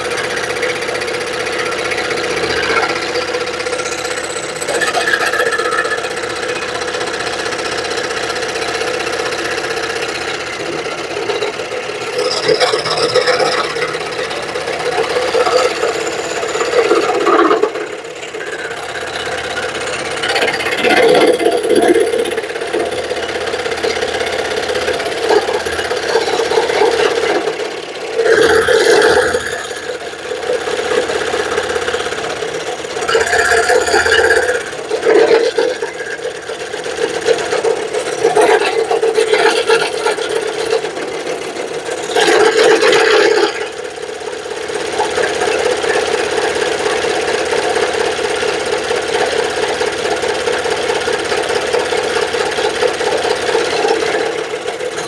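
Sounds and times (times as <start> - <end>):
electric saw cutting wood: 0.0 - 55.0.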